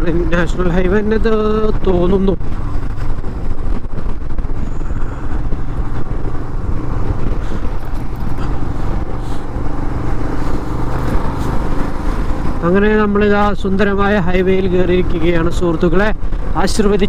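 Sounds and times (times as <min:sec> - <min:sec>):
heavy wind noise: 0:00.0 - 0:17.0
motorcycle engine running: 0:00.0 - 0:17.0
road noise: 0:00.0 - 0:17.0.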